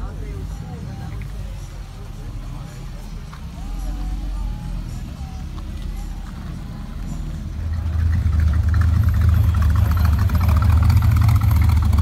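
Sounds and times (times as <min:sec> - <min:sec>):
pickup engine exhaust rumble: 0:00.0 - 0:12.0.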